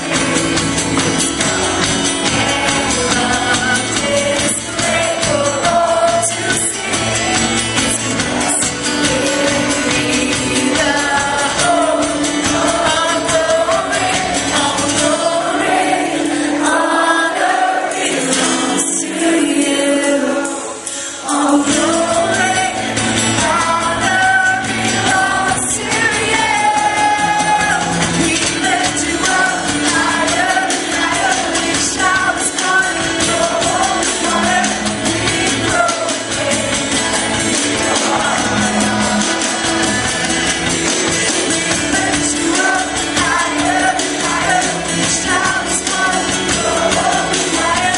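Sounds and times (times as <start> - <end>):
instrumental accompaniment: 0.0 - 47.9
voices singing together: 0.0 - 47.9.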